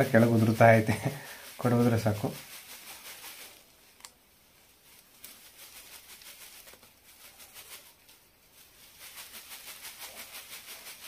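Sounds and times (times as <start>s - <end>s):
leaf stalks rustling: 0.0s - 11.0s.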